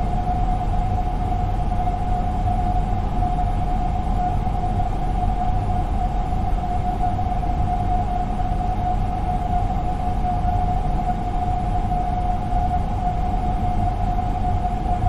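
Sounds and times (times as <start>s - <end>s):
constant high whine: 0.0s - 15.0s.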